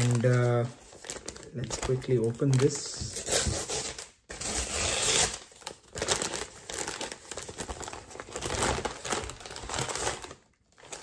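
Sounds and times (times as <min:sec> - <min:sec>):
paper envelope tearing and crinkling: 0:00.0 - 0:11.0.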